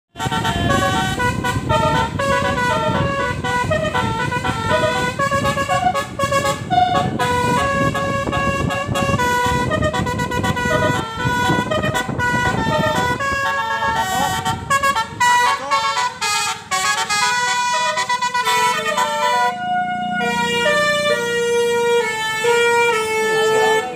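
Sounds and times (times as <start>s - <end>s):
multi-tone bus horn melody: 0.1s - 23.9s
steady low rumble: 0.2s - 23.0s.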